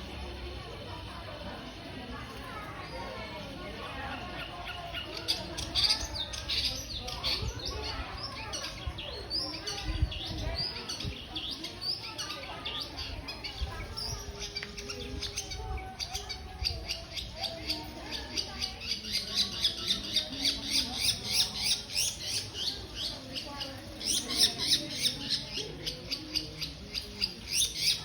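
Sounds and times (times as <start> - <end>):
bird chirping calls: 2.7 - 28.0.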